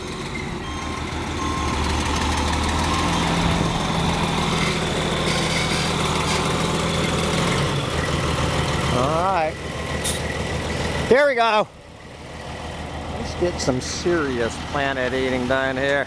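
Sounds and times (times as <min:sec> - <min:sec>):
diesel truck engine running: 0:00.0 - 0:16.0
higher engine tone: 0:00.0 - 0:16.0.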